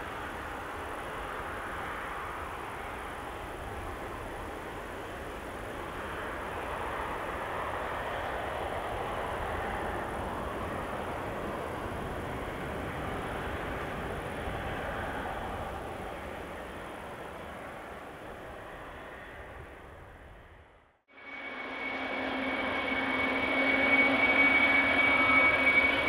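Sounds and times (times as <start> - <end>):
distant jet engines rushing: 0.0 - 26.0.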